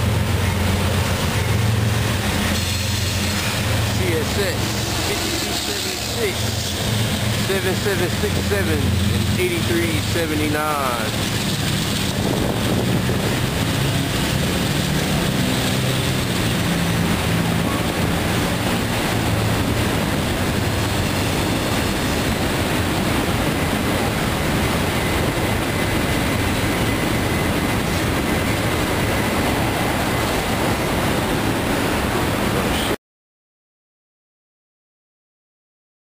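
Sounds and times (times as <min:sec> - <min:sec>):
locomotive low drone: 0:00.0 - 0:32.9
train wheels clattering on rail: 0:00.0 - 0:32.9.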